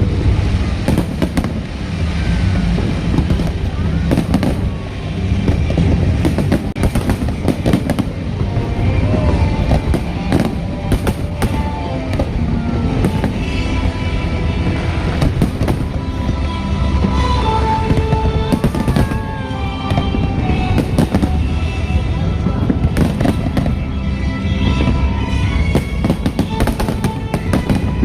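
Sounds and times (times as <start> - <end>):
fireworks bangs and crackles: 0.0 - 28.0
low rumble: 0.0 - 28.0
music playing: 0.0 - 28.0.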